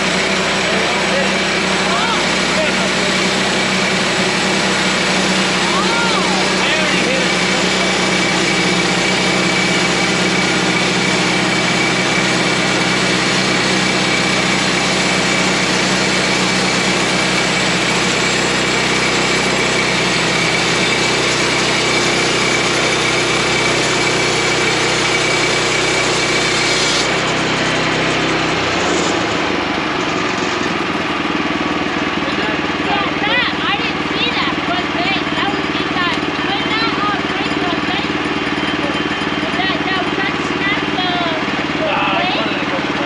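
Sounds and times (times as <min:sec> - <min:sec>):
gas engine running hard: 0:00.0 - 0:43.0.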